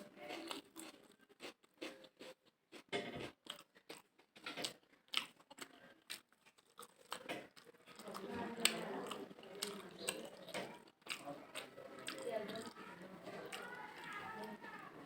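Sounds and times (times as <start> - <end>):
mouth clicks and crunches: 0.0 - 14.6
person chewing food: 0.0 - 14.8.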